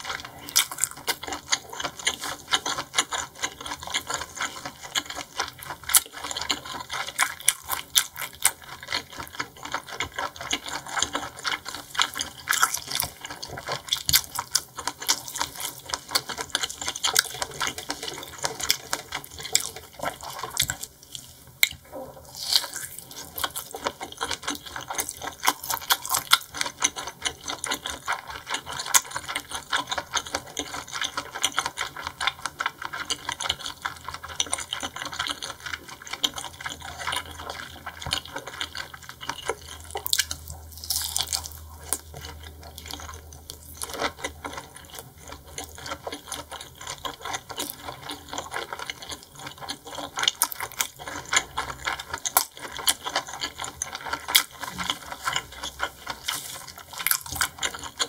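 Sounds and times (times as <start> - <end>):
wet chewing and mouth smacking: 0.0 - 58.0.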